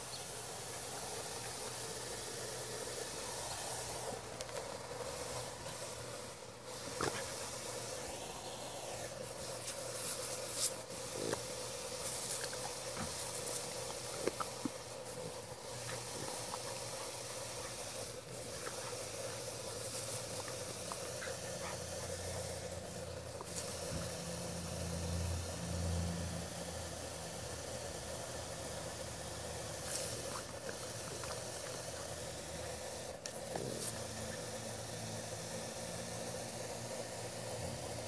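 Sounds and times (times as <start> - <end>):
sprinkler spraying water: 0.0 - 38.0.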